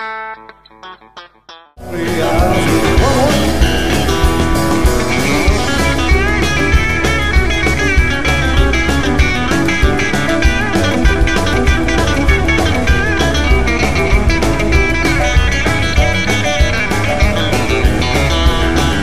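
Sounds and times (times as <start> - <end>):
twangy electric guitar: 0.0 - 19.0
steady drum beat: 1.8 - 19.0.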